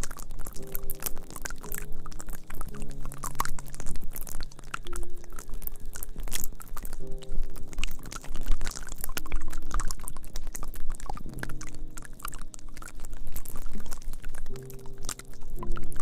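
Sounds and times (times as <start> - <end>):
low steady hum: 0.0 - 16.0
wet crackling and clicking: 0.0 - 16.0.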